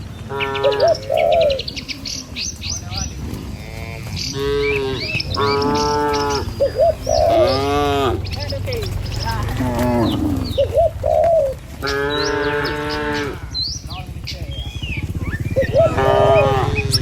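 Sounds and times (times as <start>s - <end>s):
birds chirping: 0.0s - 17.0s
steady low rumble: 0.0s - 17.0s
cattle mooing: 0.1s - 17.0s.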